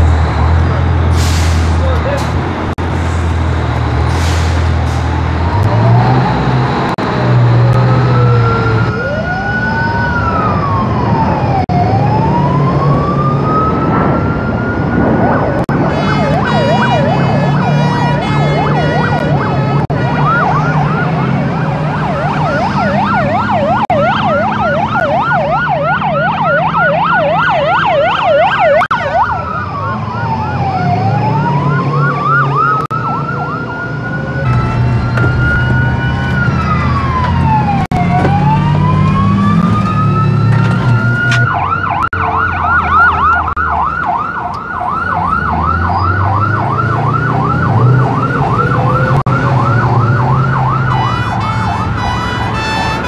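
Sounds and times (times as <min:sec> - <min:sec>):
diesel engine rumble: 0:00.0 - 0:53.0
sirens wailing and yelping: 0:00.0 - 0:53.0.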